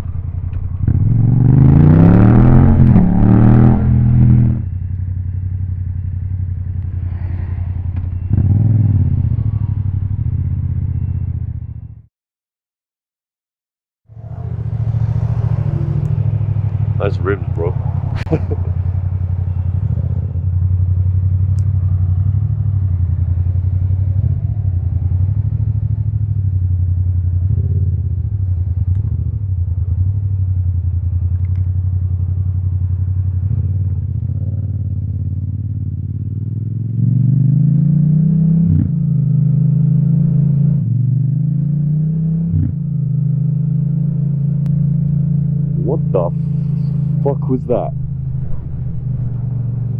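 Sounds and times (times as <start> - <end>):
motorcycle engine: 0.0 - 12.1, 14.1 - 49.9.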